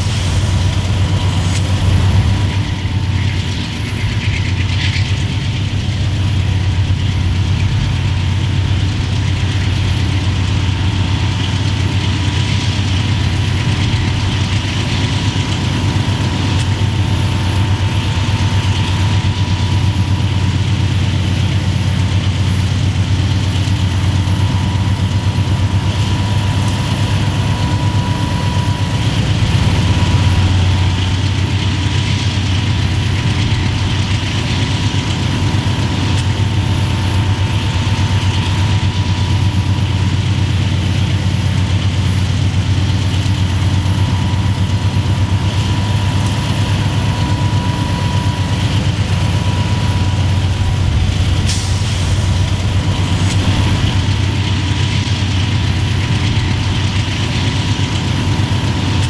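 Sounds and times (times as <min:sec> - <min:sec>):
thin steady whine: 0:00.0 - 0:21.0, 0:24.2 - 0:42.2, 0:43.7 - 0:59.0
locomotive engine rumble: 0:00.0 - 0:59.0.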